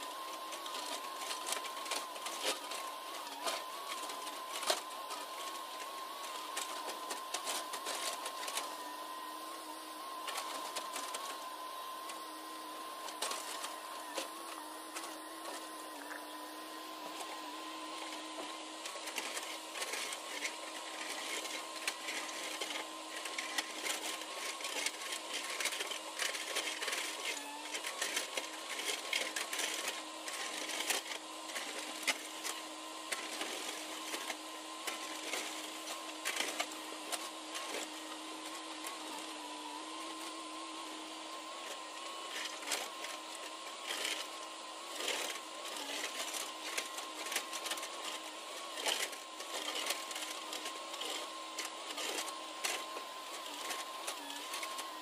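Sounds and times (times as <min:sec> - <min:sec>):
excavator engine whining: 0:00.0 - 0:55.0.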